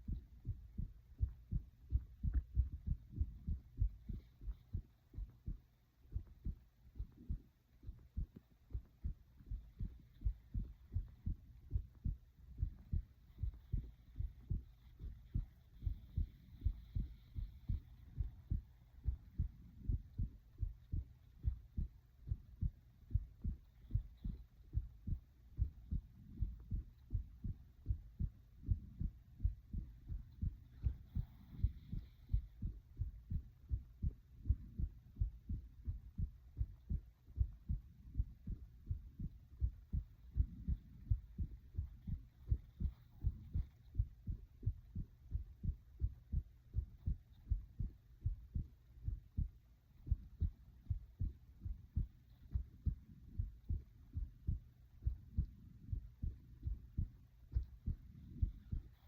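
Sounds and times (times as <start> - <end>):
heartbeat thumps: 0.0 - 59.0.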